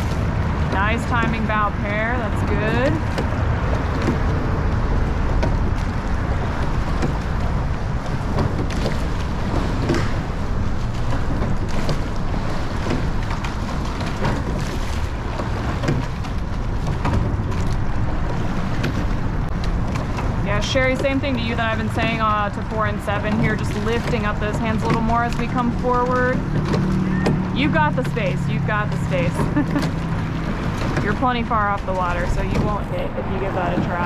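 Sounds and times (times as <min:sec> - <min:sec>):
water rushing along a hull: 0:00.0 - 0:34.0
wind buffeting microphone: 0:00.0 - 0:34.0.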